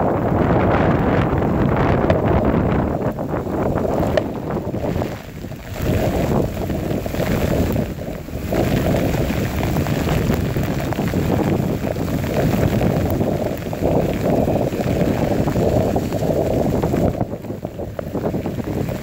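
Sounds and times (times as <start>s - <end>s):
heavy rain on street: 0.0s - 19.0s
wind buffeting microphone: 0.0s - 19.0s.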